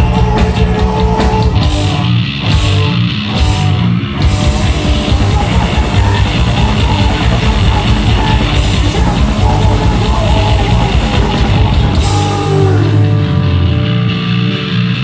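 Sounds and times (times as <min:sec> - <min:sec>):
bass guitar: 0:00.0 - 0:15.0
distorted guitars: 0:00.0 - 0:15.0
fast drums: 0:00.0 - 0:15.0.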